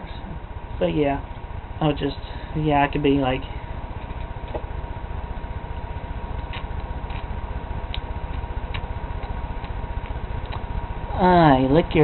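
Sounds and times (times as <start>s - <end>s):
low mechanical hum with flutter: 0.0s - 12.0s.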